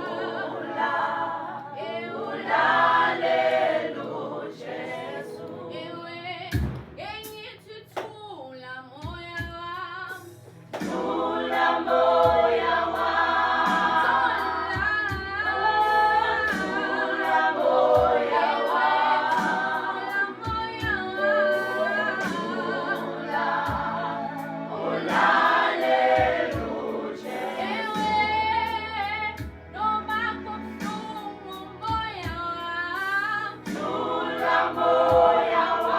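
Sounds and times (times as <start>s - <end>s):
youth choir singing gospel: 0.0s - 7.2s, 9.4s - 35.9s.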